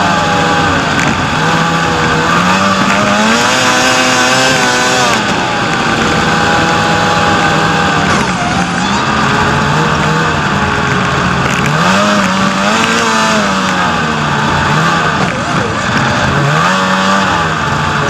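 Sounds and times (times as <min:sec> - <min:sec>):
snowmobile engine running: 0:00.0 - 0:18.0.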